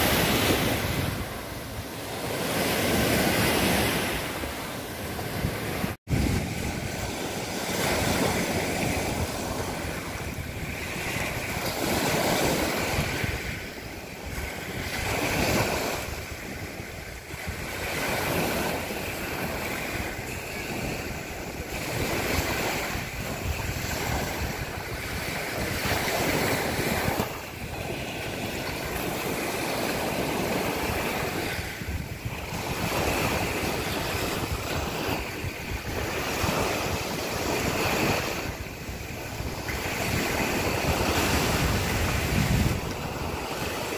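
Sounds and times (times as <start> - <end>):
sea waves washing onto beach: 0.0 - 43.9
wind buffeting microphone: 0.0 - 43.9.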